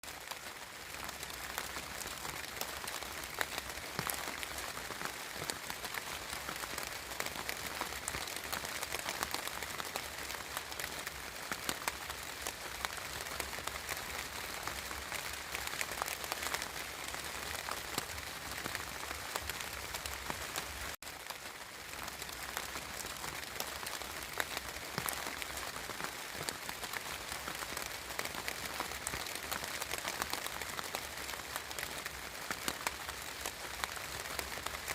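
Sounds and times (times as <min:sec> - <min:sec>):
steady rain pattering: 0:00.0 - 0:34.9
raindrops ticking close by: 0:00.1 - 0:34.9.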